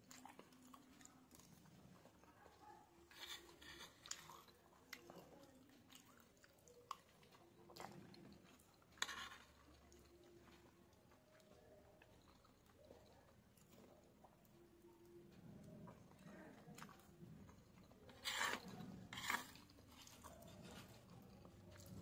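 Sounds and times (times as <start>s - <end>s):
chewing soft pasta: 0.0s - 22.0s.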